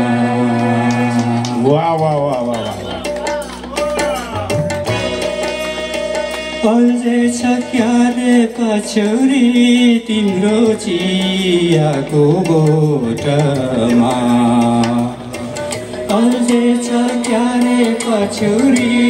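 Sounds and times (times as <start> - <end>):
man singing through speaker: 0.0 - 3.1, 6.6 - 19.0
electronic keyboard accompaniment: 0.0 - 19.0.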